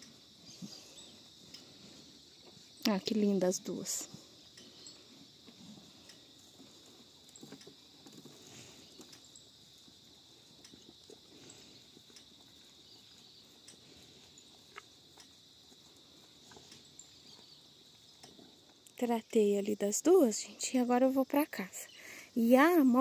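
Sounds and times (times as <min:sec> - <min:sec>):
cows feeding rustling: 0:00.0 - 0:18.8.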